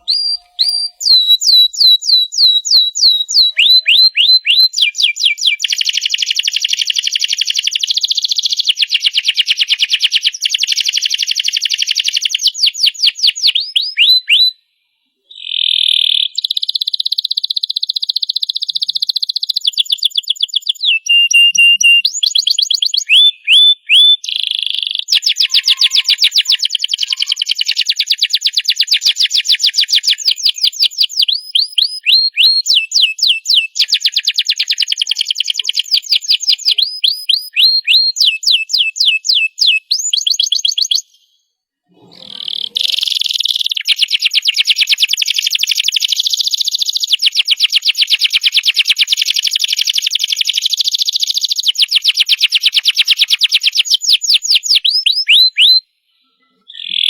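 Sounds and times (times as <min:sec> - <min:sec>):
canary singing trills: 0:00.0 - 0:14.6, 0:15.3 - 0:41.3, 0:42.0 - 0:57.0.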